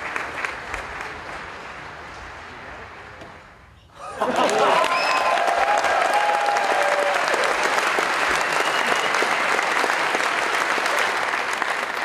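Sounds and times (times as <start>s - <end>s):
large audience applauding: 0.0s - 2.0s, 4.2s - 12.0s.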